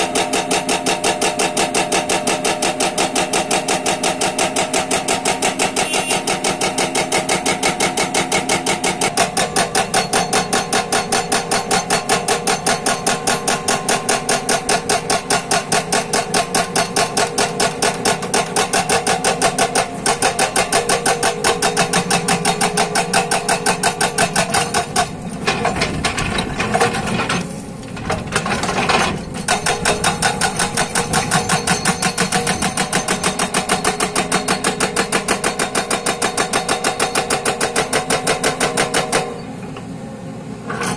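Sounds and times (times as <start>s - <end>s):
hydraulic breaker hammering rock: 0.0s - 39.5s
excavator engine running: 0.0s - 40.9s.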